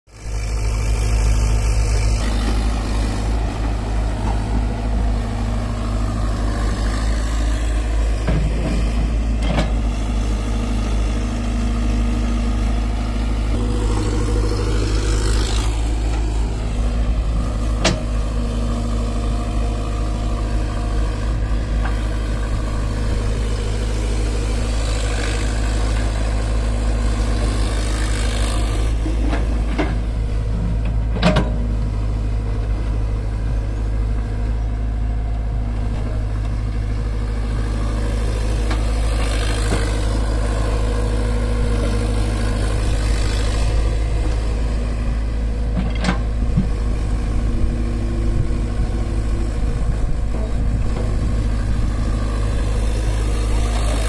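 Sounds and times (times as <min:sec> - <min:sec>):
excavator diesel engine running: 0:00.1 - 0:54.0.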